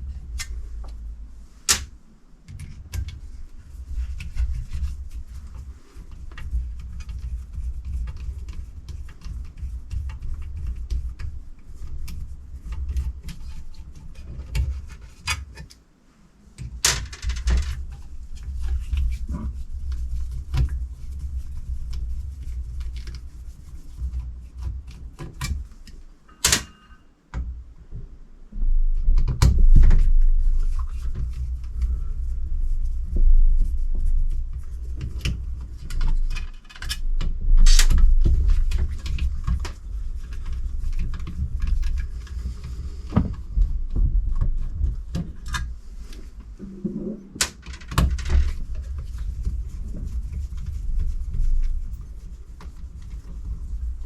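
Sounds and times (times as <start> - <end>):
low rumble of handling: 0.0 - 54.0.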